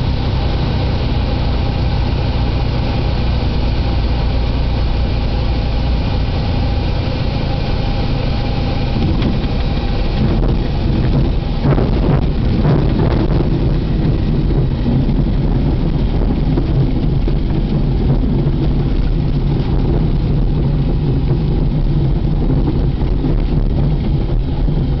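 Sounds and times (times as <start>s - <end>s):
airplane engine running: 0.0s - 25.0s.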